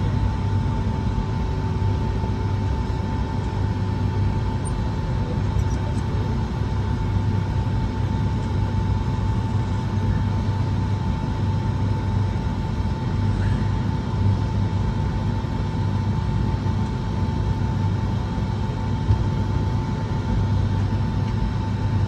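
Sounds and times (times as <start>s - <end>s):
aircraft cabin ventilation hum: 0.0s - 22.0s.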